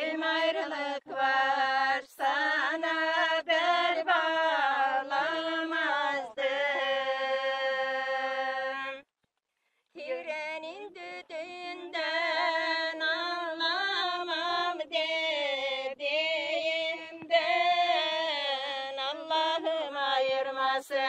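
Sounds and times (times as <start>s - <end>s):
woman singing unaccompanied: 0.0s - 9.1s, 10.0s - 21.0s.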